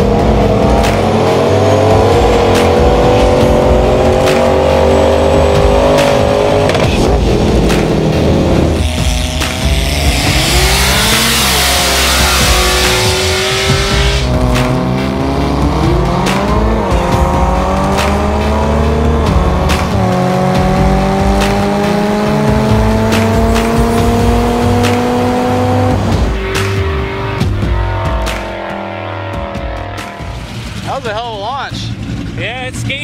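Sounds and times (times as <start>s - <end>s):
race car engine at full throttle: 0.0s - 33.0s.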